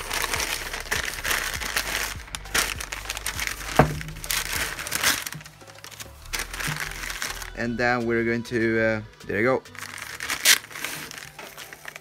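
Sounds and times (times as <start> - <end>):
newspaper crinkling: 0.0 - 8.0, 9.6 - 12.0.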